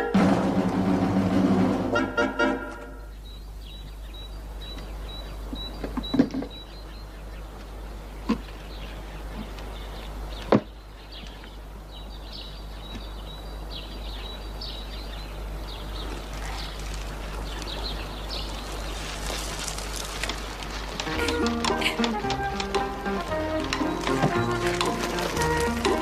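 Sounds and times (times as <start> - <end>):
small birds chirping: 2.8 - 26.0.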